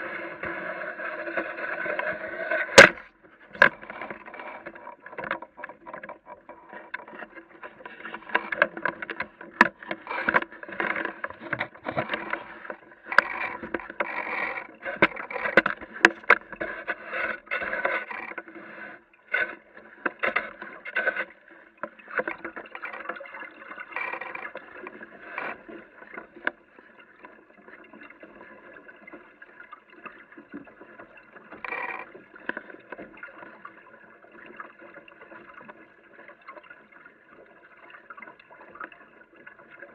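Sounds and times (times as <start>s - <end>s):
water splashing against hull: 0.0s - 39.9s.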